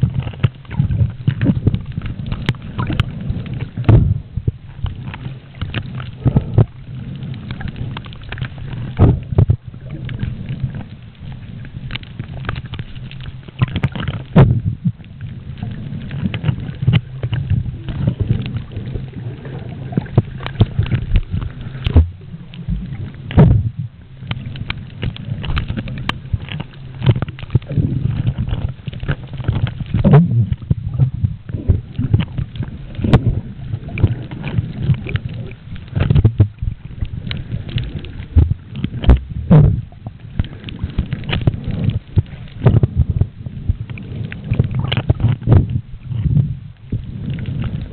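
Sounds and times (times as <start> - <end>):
underwater clicks and knocks: 0.0 - 47.9
underwater low rumble: 0.0 - 47.9.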